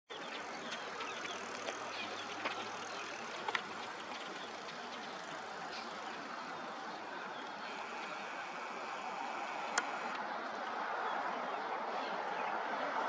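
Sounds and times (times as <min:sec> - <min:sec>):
distant road traffic: 0:00.1 - 0:13.0.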